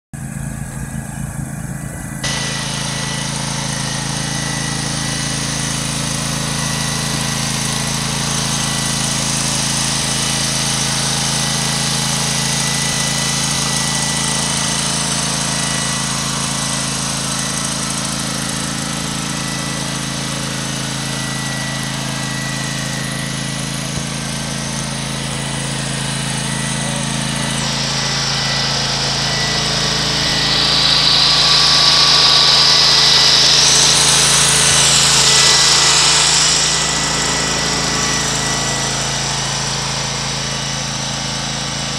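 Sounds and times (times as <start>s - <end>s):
mower engine running: 0.1s - 41.9s.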